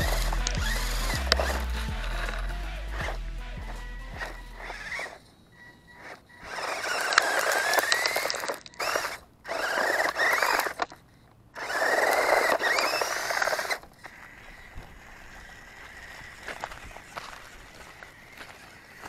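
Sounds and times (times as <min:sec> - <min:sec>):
toy car electric motor whining: 0:00.0 - 0:19.0.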